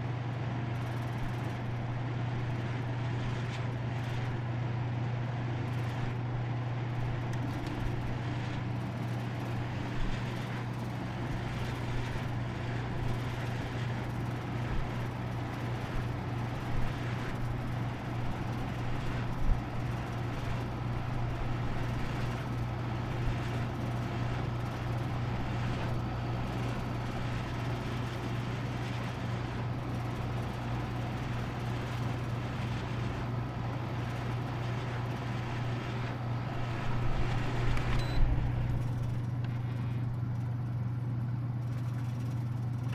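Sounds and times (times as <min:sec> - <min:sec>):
air conditioner humming: 0:00.0 - 0:42.9.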